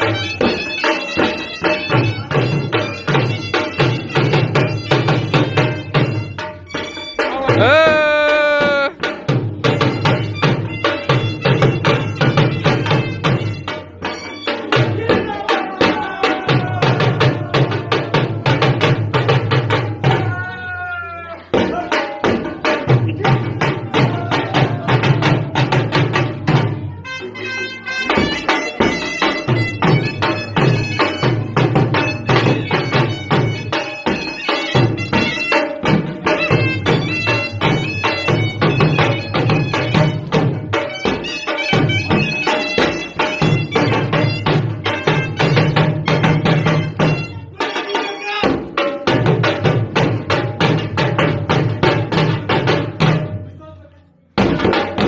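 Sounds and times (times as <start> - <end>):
fast drum beats: 0.0 - 20.7, 21.5 - 27.0, 28.0 - 53.4, 54.4 - 55.0
shawm playing reedy melody: 0.0 - 48.7.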